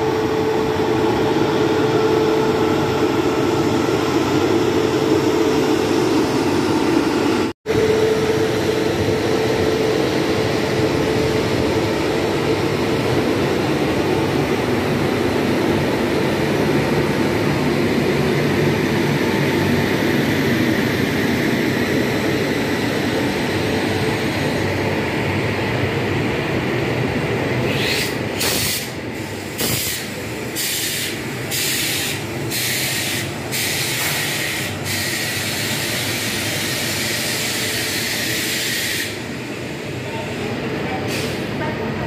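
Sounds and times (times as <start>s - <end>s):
diesel engines running: 0.0s - 42.0s
train wheels rumbling on rails: 0.0s - 42.0s.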